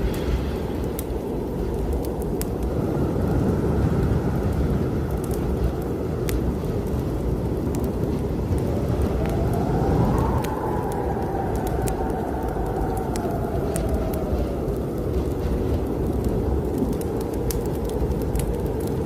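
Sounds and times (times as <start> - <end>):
fireplace fire crackling: 0.0 - 19.0
storm wind howling: 0.0 - 19.0.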